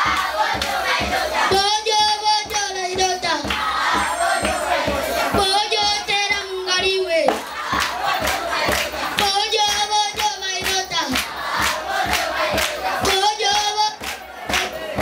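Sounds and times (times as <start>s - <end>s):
children singing in chorus: 0.0s - 15.0s
fast percussive beat: 0.0s - 15.0s.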